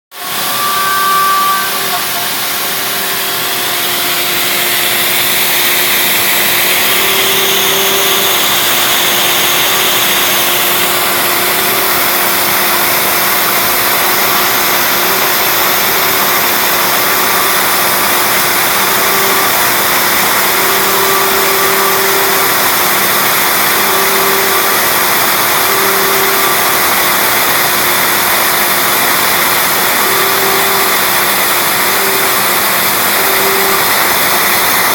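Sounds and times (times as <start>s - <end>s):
router spindle whining: 0.1s - 34.9s
stepper motor whining tones: 0.2s - 34.9s.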